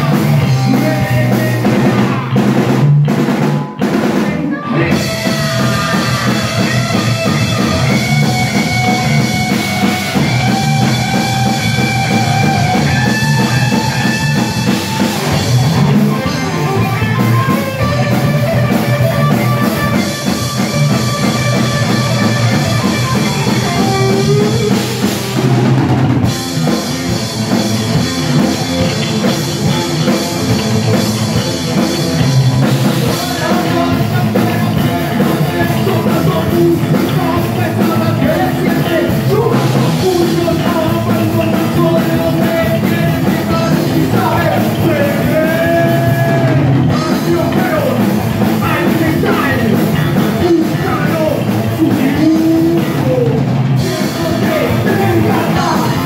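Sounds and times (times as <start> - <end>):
busy drum kit: 0.0 - 56.0
distorted electric guitar: 0.0 - 56.0
electric bass: 0.0 - 56.0.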